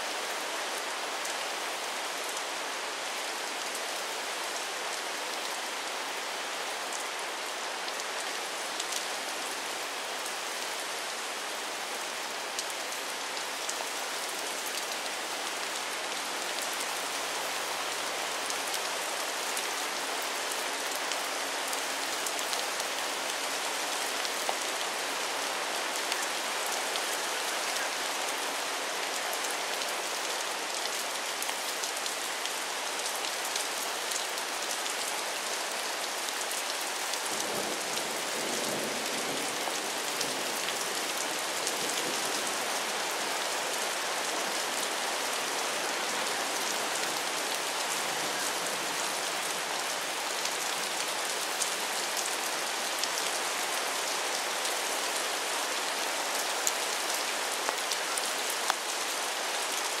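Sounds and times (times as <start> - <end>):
rain on river surface: 0.0 - 60.0.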